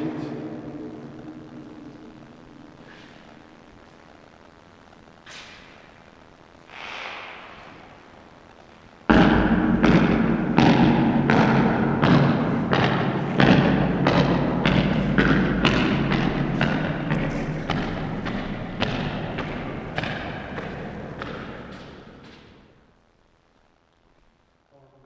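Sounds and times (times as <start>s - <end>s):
steady low rumble: 0.0s - 23.8s.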